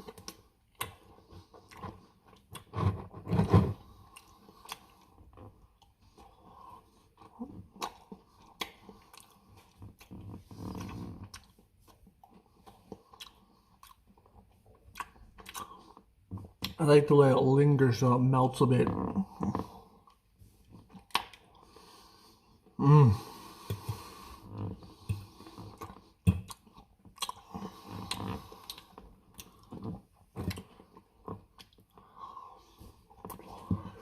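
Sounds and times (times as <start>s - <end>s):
man chewing food: 0.0s - 16.8s, 19.1s - 34.0s.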